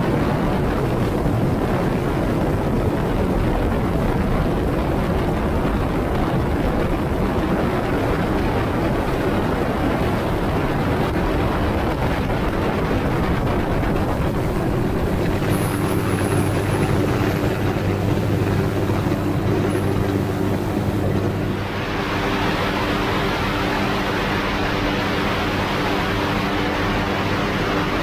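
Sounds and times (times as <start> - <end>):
engine hum: 0.0 - 28.0
helicopter rotor and turbine rush: 0.0 - 28.0
wind blowing over microphone: 0.0 - 28.0.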